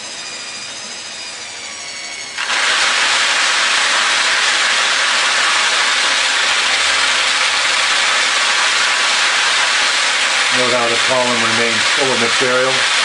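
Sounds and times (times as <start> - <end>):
small motor whining: 0.0 - 13.0
seed raining down hissing: 2.4 - 13.0.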